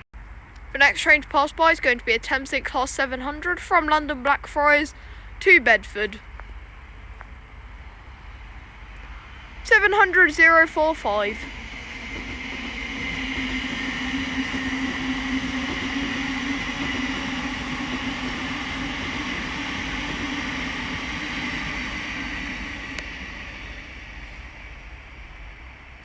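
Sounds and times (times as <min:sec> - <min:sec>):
train passing on rails: 0:00.2 - 0:26.0.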